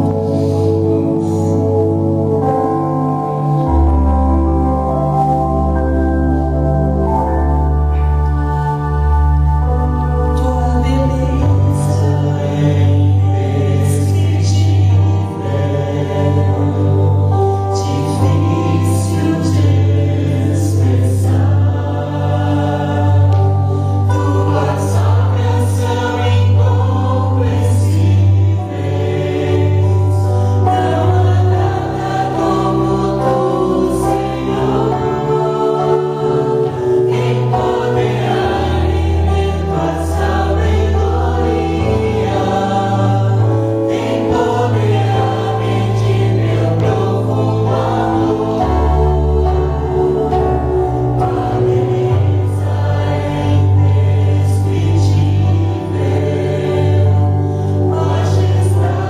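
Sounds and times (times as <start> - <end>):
choir singing gospel song: 0.0 - 59.0
instrumental backing with bass: 0.0 - 59.0.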